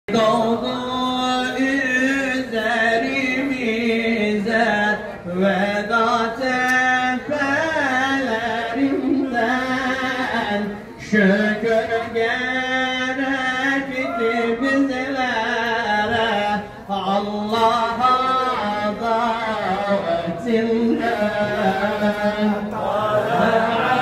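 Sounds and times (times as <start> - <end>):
man chanting into a microphone: 0.1 - 24.0.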